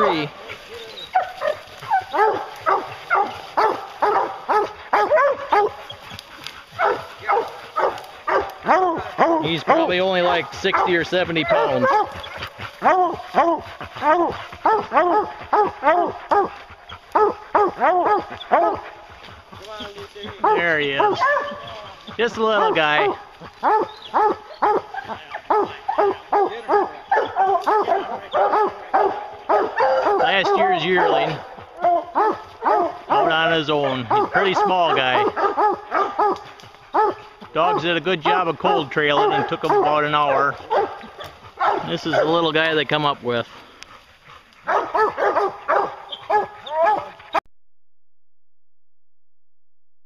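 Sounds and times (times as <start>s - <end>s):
hounds barking: 0.0s - 47.4s.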